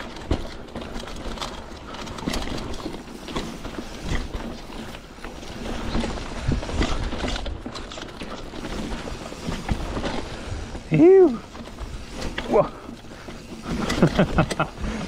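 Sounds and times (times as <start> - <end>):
bike knocking and rattling: 0.0 - 15.0
bike tyres on dirt trail: 0.0 - 15.0.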